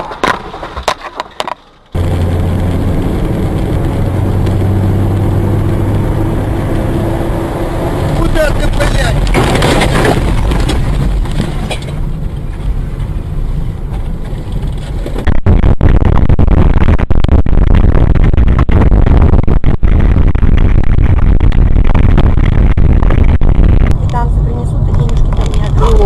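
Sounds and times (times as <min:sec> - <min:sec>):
car engine: 0:00.0 - 0:26.0
road noise: 0:00.0 - 0:26.0.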